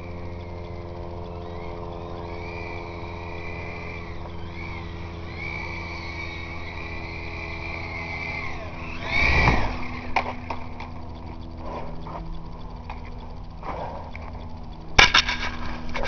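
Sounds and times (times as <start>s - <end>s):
rc helicopter motors whining: 0.0s - 16.0s.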